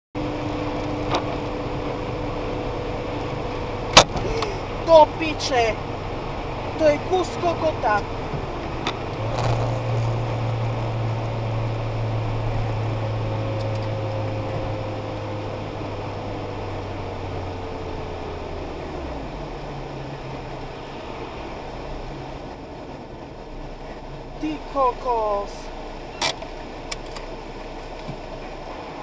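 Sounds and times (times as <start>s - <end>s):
car engine and road noise: 0.2s - 29.0s.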